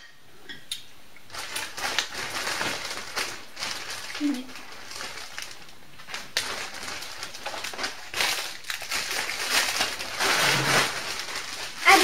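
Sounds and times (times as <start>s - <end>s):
packaging rustling and crinkling: 1.3s - 12.0s.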